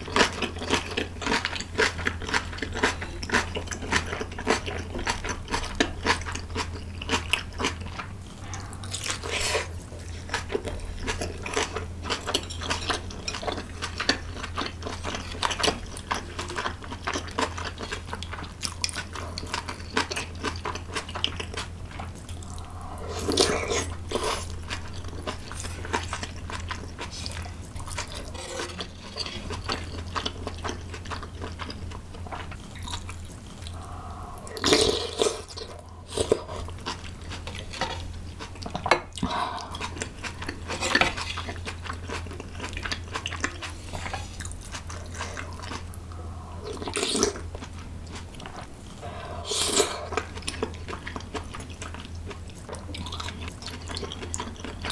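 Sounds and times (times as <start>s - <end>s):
crunchy chewing: 0.0s - 54.9s
low steady hum: 0.0s - 54.9s.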